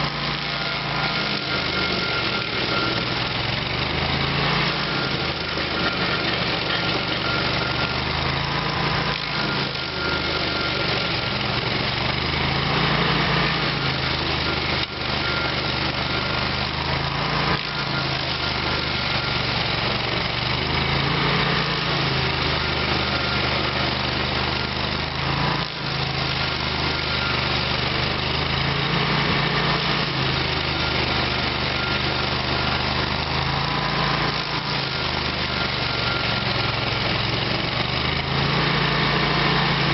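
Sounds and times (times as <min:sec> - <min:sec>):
petrol engine running hard: 0:00.0 - 0:39.9.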